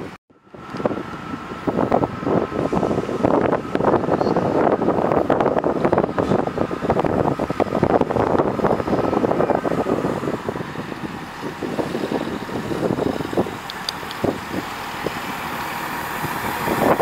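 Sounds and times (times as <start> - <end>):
diesel train running slowly: 0.0 - 17.0
gusty wind buffeting microphone: 0.0 - 17.0.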